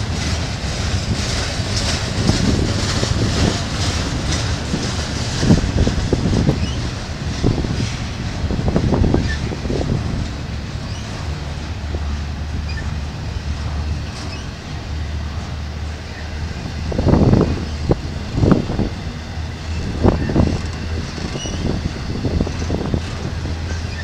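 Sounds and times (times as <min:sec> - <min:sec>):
freight train low rumble: 0:00.0 - 0:24.0
heavy thumps of train wheels: 0:00.0 - 0:24.0.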